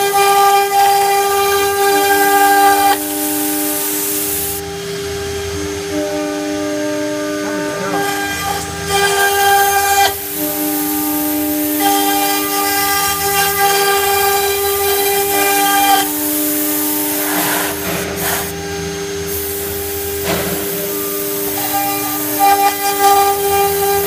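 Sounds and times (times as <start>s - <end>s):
hissing cutting noise: 0.0s - 24.0s
router spindle whine: 0.0s - 24.0s.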